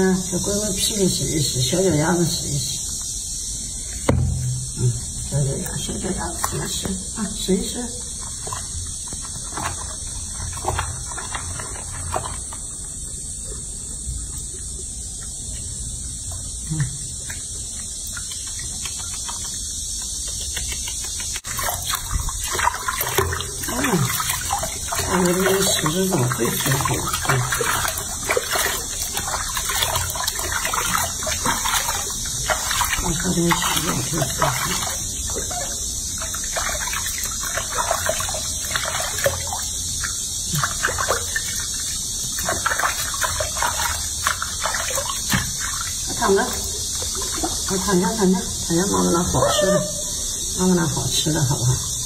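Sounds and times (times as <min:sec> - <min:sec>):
water lapping and dripping: 0:00.0 - 0:52.0
water splashing in a sink: 0:00.0 - 0:52.0.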